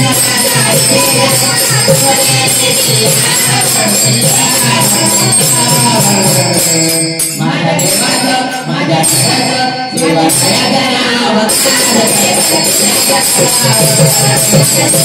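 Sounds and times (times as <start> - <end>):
jingling tambourine: 0.0 - 15.0
man singing: 0.0 - 15.0.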